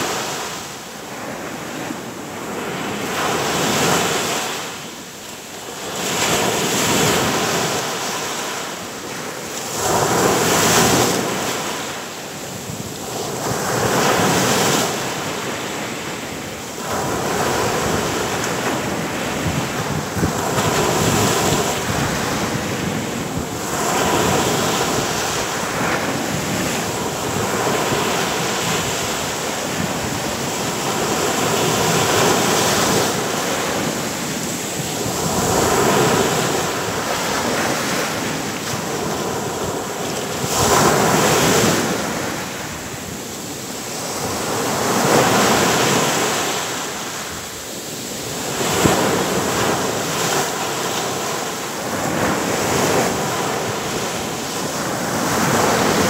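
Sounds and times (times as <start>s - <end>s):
surf breaking on beach: 5.6s - 56.0s.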